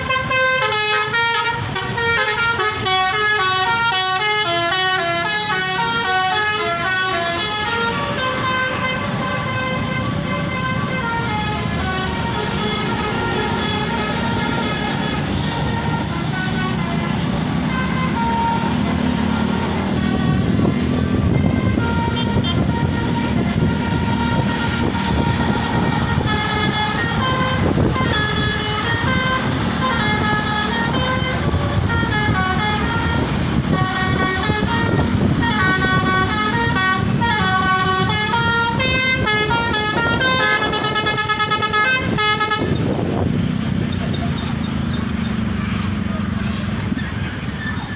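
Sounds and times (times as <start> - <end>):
bus musical horn: 0.0 - 43.8
engine and road noise: 0.0 - 47.9.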